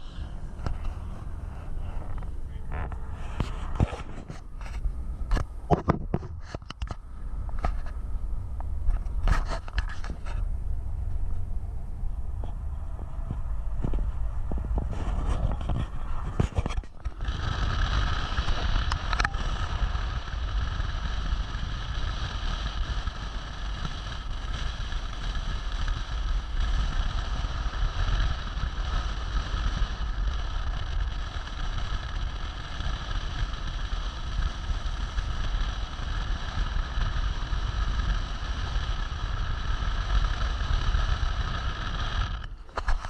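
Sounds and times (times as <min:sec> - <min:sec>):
engine and road rumble: 0:00.0 - 0:43.0
steady high whine: 0:00.0 - 0:43.0.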